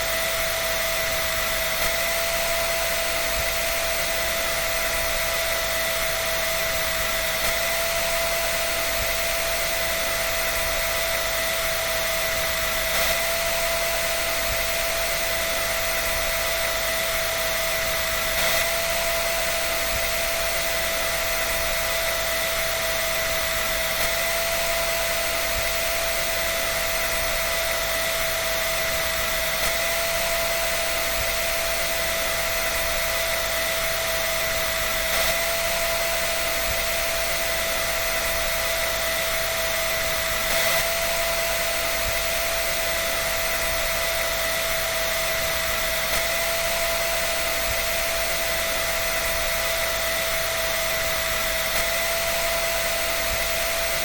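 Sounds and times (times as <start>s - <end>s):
electric dryer running: 0.0s - 54.0s.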